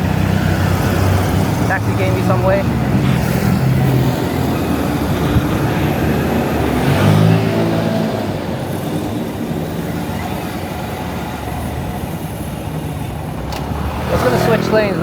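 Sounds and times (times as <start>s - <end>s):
wind on microphone: 0.0s - 14.1s
motorcycle engine: 0.0s - 15.0s.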